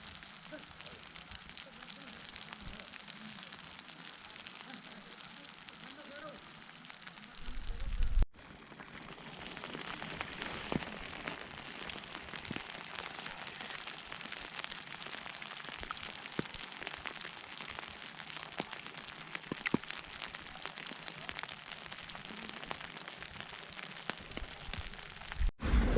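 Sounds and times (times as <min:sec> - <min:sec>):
falling snow pattering: 0:00.0 - 0:25.5.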